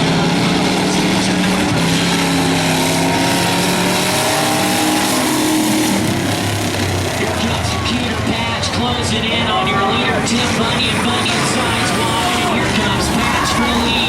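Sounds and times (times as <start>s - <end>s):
car engine revving: 0.0s - 14.0s
car engines running: 0.0s - 14.0s.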